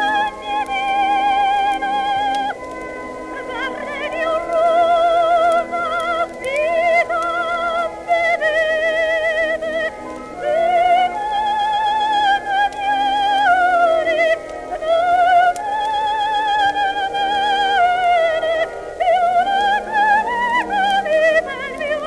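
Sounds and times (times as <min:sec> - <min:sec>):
slow melody with vibrato: 0:00.0 - 0:22.0.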